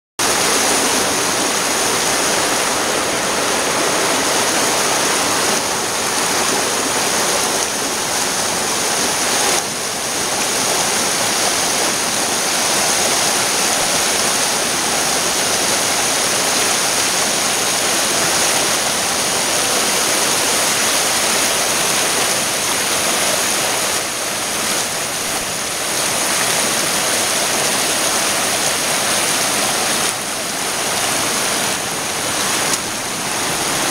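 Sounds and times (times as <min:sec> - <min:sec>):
creek rushing over rocks: 0:00.2 - 0:33.9.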